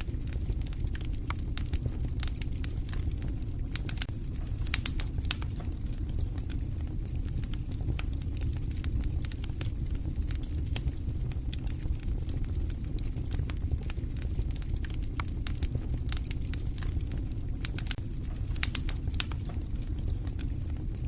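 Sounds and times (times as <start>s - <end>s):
campfire crackling and popping: 0.0s - 21.0s
low rumble: 0.0s - 21.0s.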